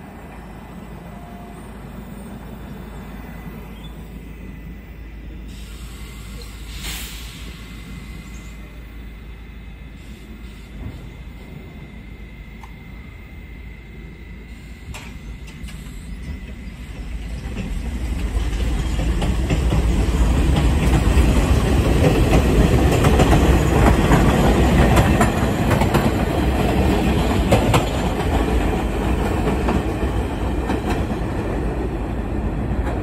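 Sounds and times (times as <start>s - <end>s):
subway train wheels rumbling: 0.0s - 33.0s.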